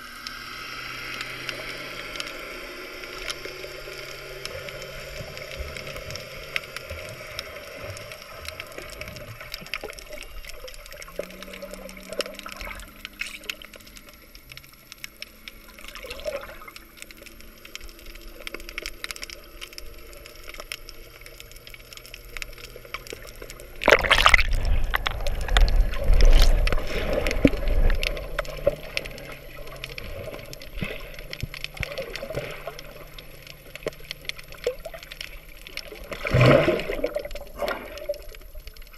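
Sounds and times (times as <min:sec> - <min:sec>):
muffled underwater water noise: 0:00.0 - 0:38.9
splashing and bubbles: 0:01.0 - 0:38.9.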